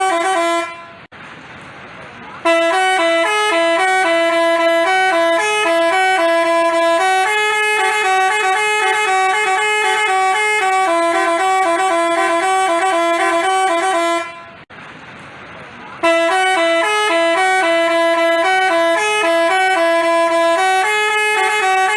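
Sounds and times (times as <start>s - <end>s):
multi-tone musical bus horn: 0.0s - 1.1s, 2.4s - 14.7s, 16.0s - 21.9s
steady background noise: 0.0s - 21.9s.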